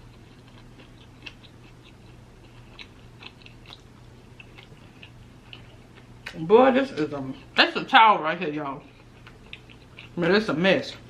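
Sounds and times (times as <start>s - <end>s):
person chewing: 0.0s - 7.6s, 8.8s - 10.3s.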